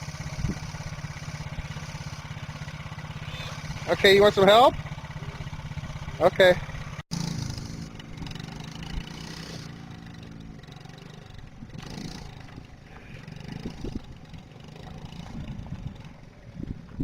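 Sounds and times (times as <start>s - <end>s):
small atv engine running: 0.0s - 17.0s.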